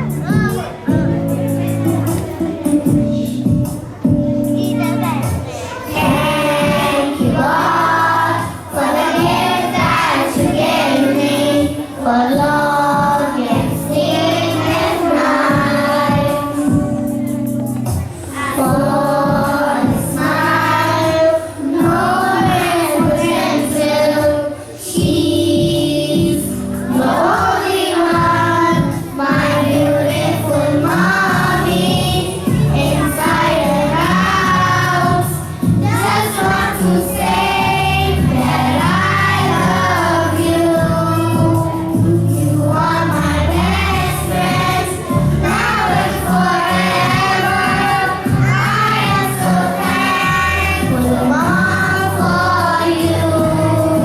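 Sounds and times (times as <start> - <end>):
instrumental backing music: 0.0 - 54.0
children singing in chorus: 5.4 - 17.3, 18.2 - 54.0.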